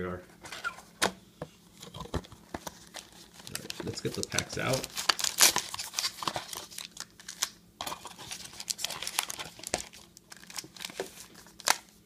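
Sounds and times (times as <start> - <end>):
foil packs crinkling: 1.8 - 12.0.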